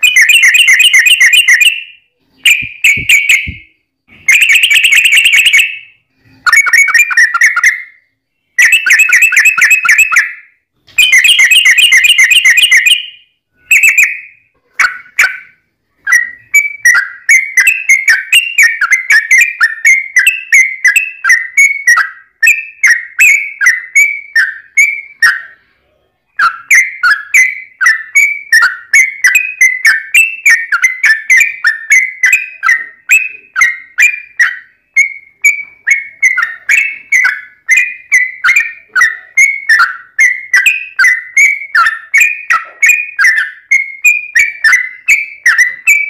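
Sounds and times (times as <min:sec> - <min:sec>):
bird song trilling and chattering: 0:00.0 - 0:46.0.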